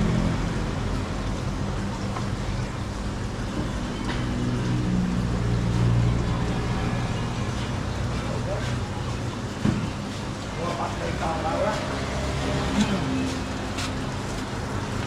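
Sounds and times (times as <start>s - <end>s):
general background noise: 0.0s - 15.0s
low mechanical hum: 0.0s - 15.0s.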